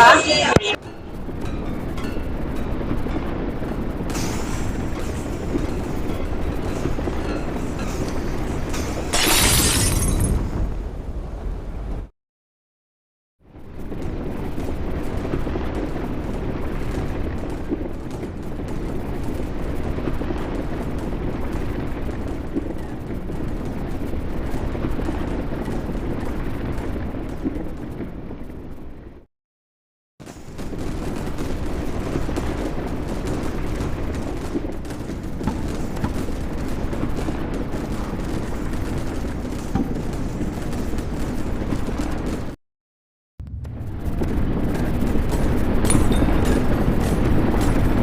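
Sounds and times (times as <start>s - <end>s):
earthquake rumble: 0.0s - 12.1s, 13.5s - 29.3s, 30.2s - 42.6s, 43.4s - 48.0s.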